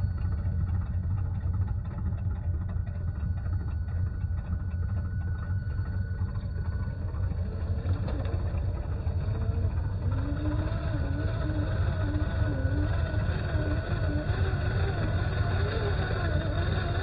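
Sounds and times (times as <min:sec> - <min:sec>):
simulated truck engine rumble: 0:00.0 - 0:17.0.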